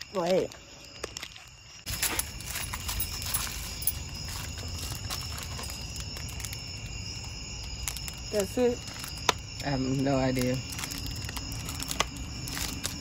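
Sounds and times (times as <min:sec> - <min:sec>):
night insects calling: 0:00.0 - 0:13.0
cardboard packaging rustling: 0:00.8 - 0:13.0.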